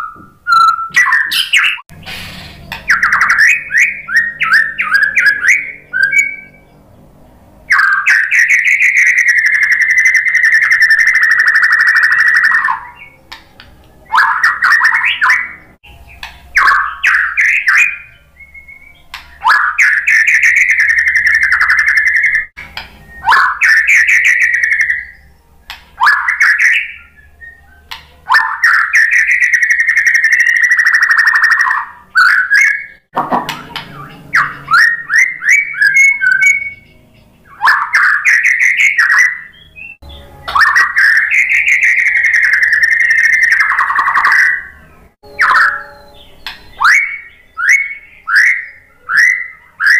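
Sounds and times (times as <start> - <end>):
bird singing rattling trills: 0.0 - 49.9.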